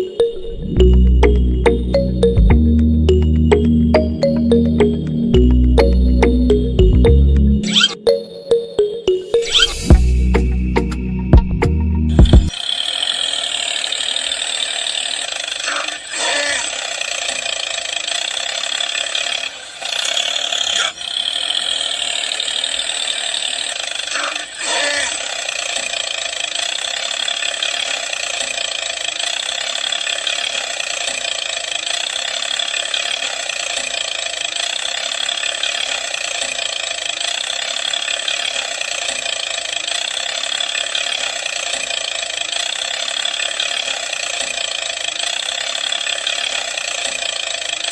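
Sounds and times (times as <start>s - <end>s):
small electric motor whine: 0.0s - 2.2s, 7.6s - 8.1s, 9.3s - 11.5s, 12.2s - 47.9s.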